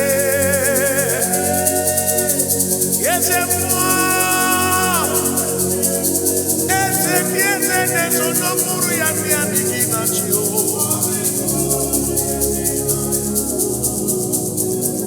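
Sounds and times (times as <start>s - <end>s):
worship band music: 0.0s - 14.6s
shaker rhythm: 0.0s - 15.0s.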